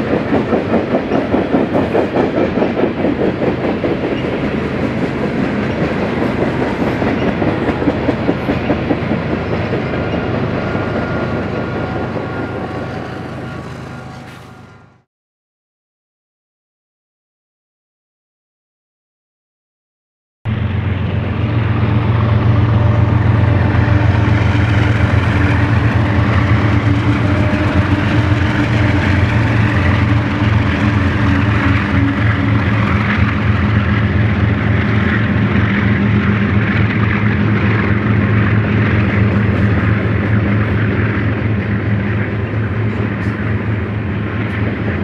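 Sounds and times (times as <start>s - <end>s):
diesel locomotive engine drone: 0.0s - 15.1s, 20.5s - 45.0s
train wheels rumbling on rail: 0.0s - 15.1s, 20.5s - 45.0s.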